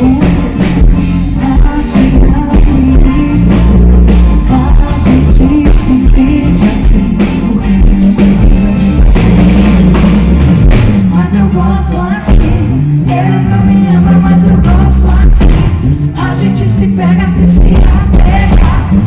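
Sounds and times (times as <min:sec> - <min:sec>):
person singing: 0:00.0 - 0:10.0, 0:11.0 - 0:19.0
drum kit beat: 0:00.0 - 0:13.4, 0:14.3 - 0:19.0
rock band playing: 0:00.0 - 0:19.0.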